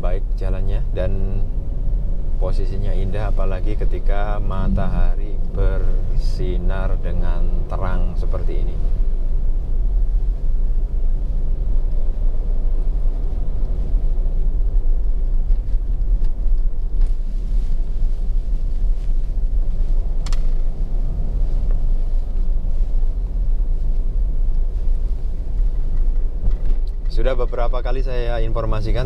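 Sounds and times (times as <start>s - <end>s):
engine and tyre rumble: 0.0s - 29.0s.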